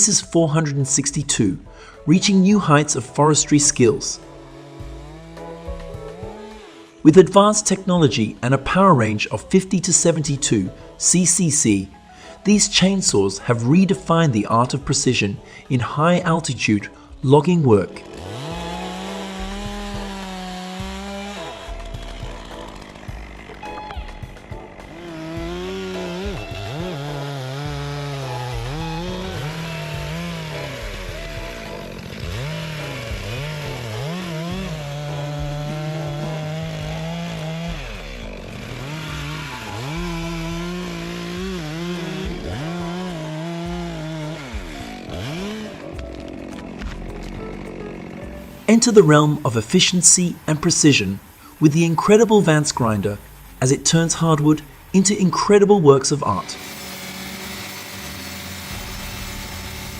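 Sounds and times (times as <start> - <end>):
chainsaw cutting wood: 0.0 - 17.0, 17.7 - 59.9.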